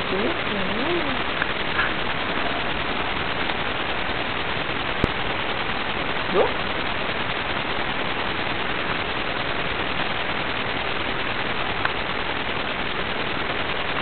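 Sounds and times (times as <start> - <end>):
steady static hiss: 0.0 - 14.0.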